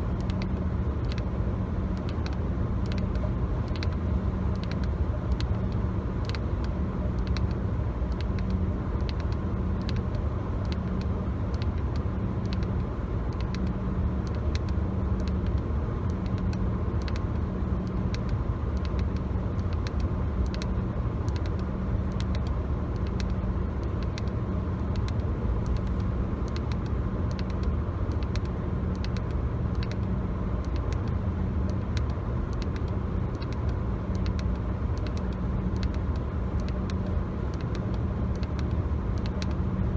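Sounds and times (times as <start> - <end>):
pulsing low hum: 0.0 - 39.9
road and engine rumble: 0.0 - 39.9.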